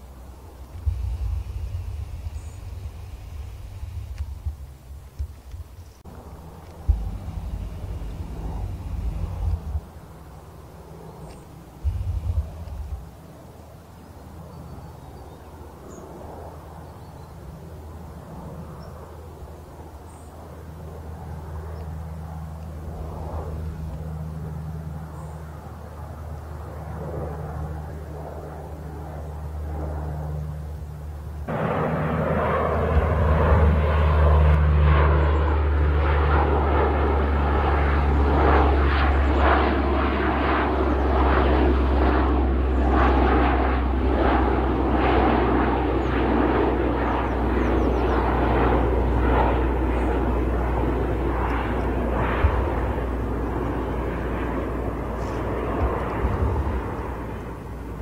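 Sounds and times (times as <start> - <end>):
turboprop plane flying overhead: 0.0 - 58.0.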